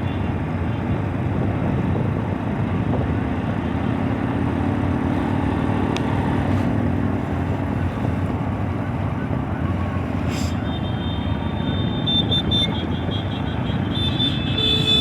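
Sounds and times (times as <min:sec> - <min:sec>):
racing truck engines rumbling: 0:00.0 - 0:15.0.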